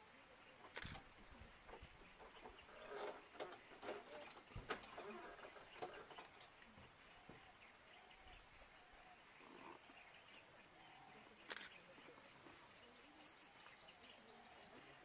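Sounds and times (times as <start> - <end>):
distant bird calls: 0.2 - 15.0.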